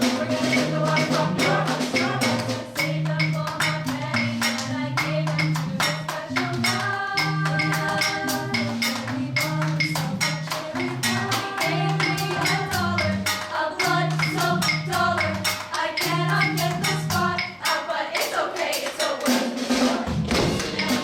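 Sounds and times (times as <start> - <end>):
choir singing: 0.0 - 21.0
fast percussive hits: 0.0 - 21.0.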